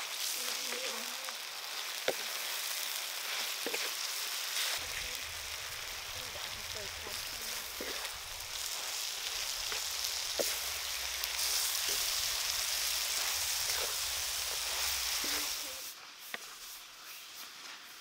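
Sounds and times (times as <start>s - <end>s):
food sizzling in a hot wok: 0.0s - 18.0s.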